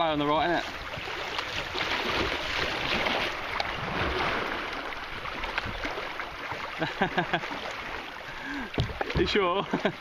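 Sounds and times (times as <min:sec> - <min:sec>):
river water rushing and splashing: 0:00.0 - 0:10.0
small splashes and knocks: 0:00.5 - 0:09.9.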